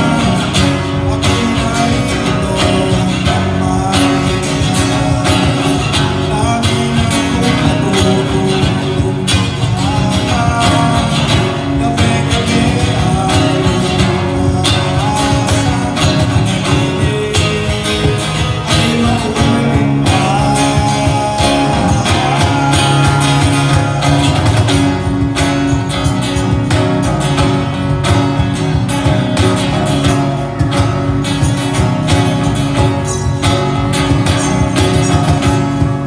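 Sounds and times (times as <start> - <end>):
acoustic guitar: 0.0 - 36.0
live band playing: 0.0 - 36.0.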